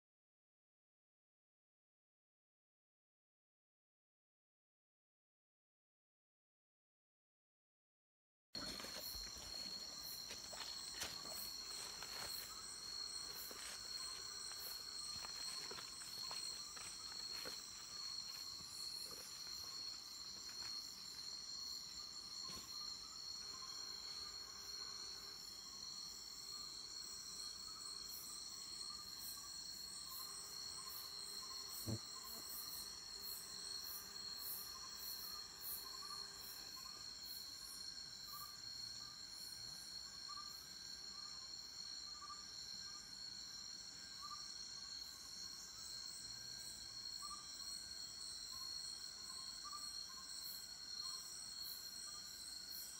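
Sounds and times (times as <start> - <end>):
insects trilling: 8.6 - 52.9
low insect chirp: 8.6 - 52.9.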